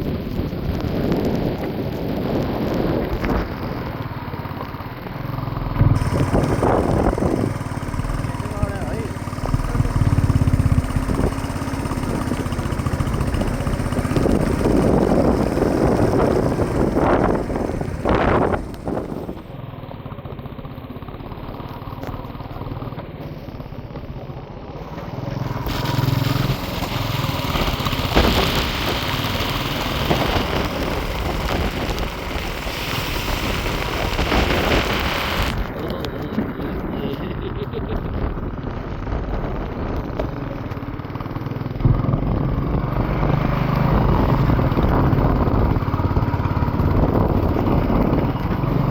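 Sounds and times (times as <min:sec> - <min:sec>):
rushing wind noise: 0:00.0 - 0:19.5, 0:25.6 - 0:40.9, 0:41.7 - 0:48.9
motorcycle engine rumble: 0:00.0 - 0:48.9.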